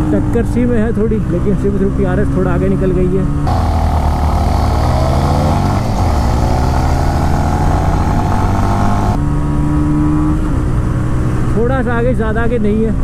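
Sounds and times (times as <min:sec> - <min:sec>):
motorcycle engines at full throttle: 0:00.0 - 0:13.0.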